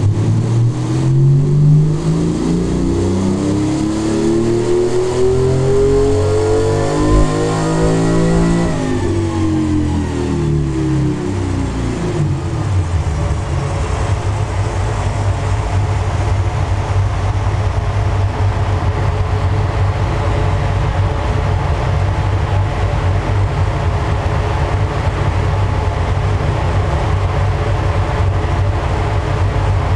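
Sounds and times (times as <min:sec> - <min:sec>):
car engine deep hum: 0:00.0 - 0:29.9.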